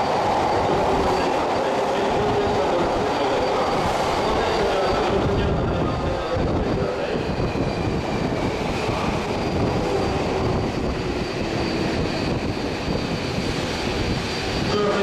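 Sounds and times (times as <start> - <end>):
subway train rumbling in tunnel: 0.0 - 15.0.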